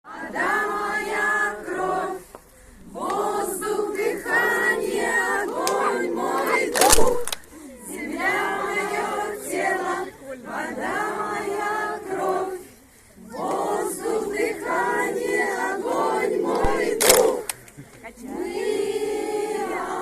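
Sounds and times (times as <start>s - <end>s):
group singing in unison: 0.0s - 17.5s, 18.1s - 20.0s.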